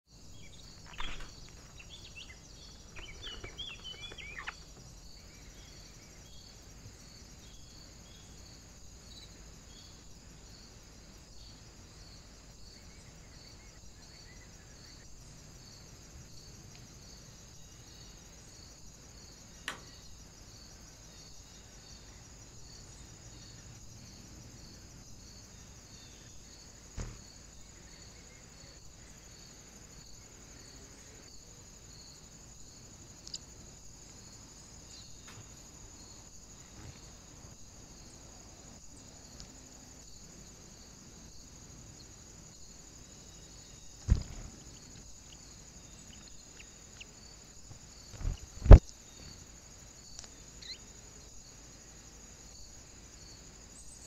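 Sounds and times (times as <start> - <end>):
high-pitched insect trill: 0.1 - 54.0.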